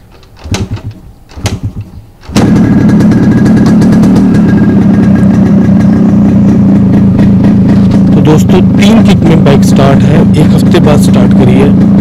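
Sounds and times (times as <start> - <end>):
motorcycle engine kick-started: 0.1 - 12.0.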